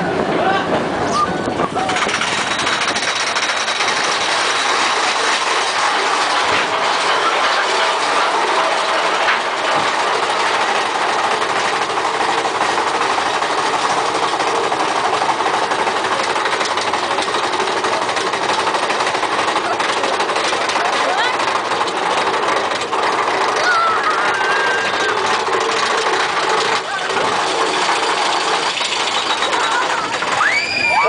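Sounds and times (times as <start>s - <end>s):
roller coaster lift chain clatter: 0.0s - 31.0s.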